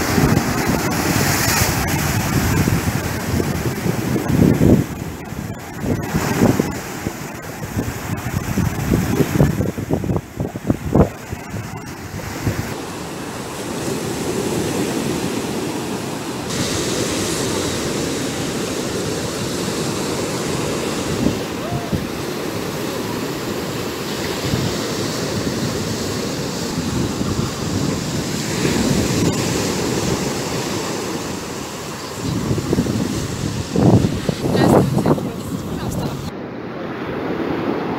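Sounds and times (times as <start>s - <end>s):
surf breaking on a beach: 0.0s - 37.9s.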